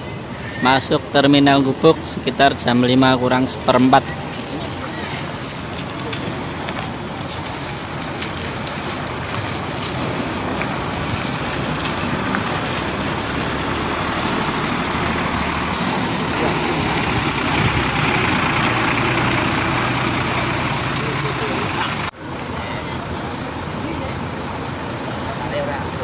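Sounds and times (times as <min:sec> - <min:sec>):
bus diesel engine passing: 0:00.0 - 0:26.0.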